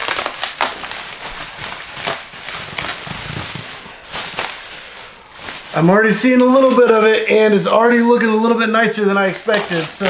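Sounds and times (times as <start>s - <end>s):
bubble wrap crackling and popping: 0.0s - 7.2s, 8.8s - 10.0s.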